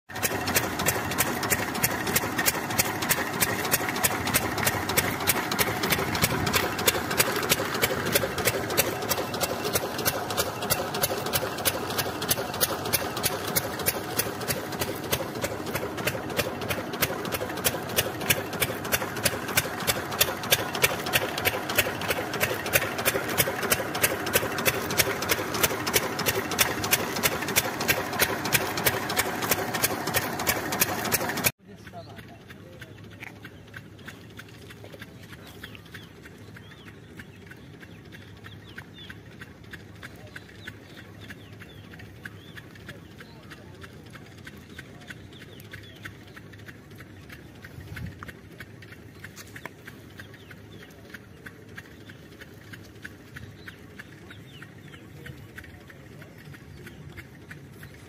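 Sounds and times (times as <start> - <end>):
diesel engine running: 0.1 - 58.0.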